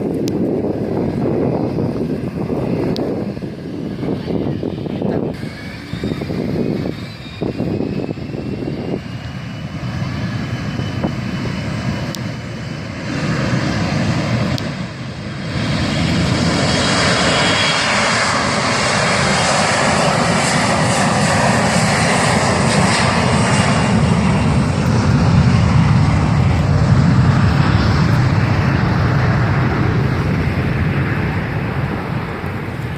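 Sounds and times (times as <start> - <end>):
airplane engines landing: 0.0 - 32.9.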